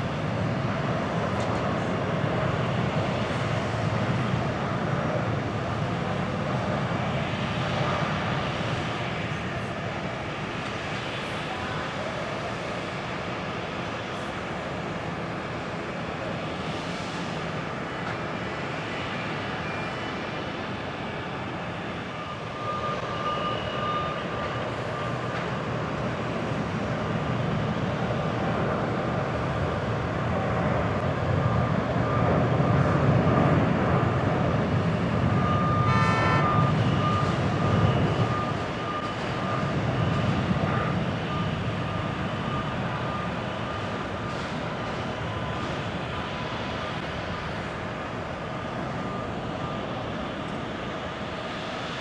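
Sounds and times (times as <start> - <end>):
jet engines at takeoff: 0.0 - 52.0.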